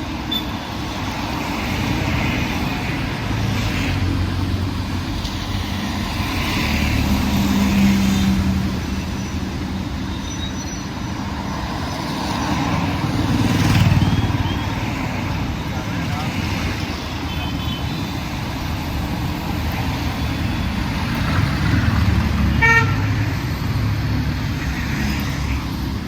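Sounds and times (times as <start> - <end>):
low traffic rumble: 0.0 - 26.0
vehicles passing close by: 0.0 - 26.0.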